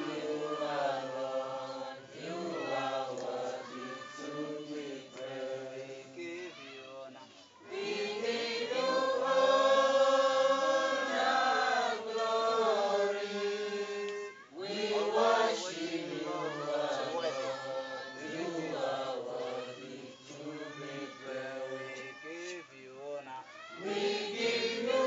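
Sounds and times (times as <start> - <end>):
congregation singing: 0.0 - 22.9, 23.8 - 25.0.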